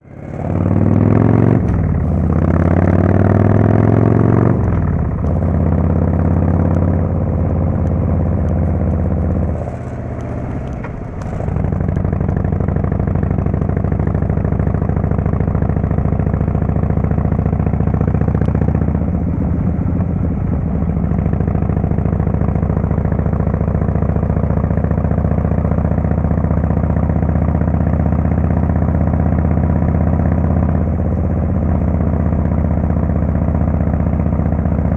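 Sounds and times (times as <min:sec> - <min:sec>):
motorcycle engine revving and idling: 0:00.0 - 0:34.9.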